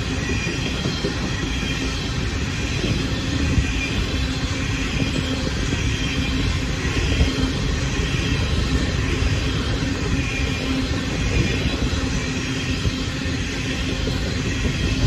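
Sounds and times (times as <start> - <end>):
freight train wheels rumbling: 0.0 - 15.0
train knocks: 0.0 - 15.0.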